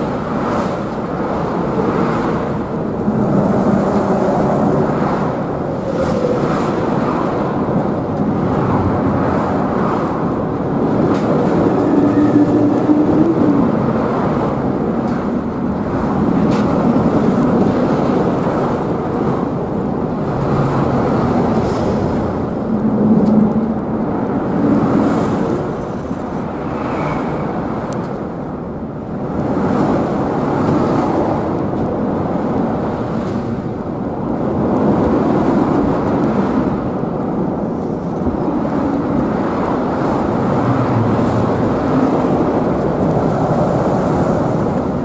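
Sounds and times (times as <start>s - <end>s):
engines and traffic noise: 0.0s - 45.0s.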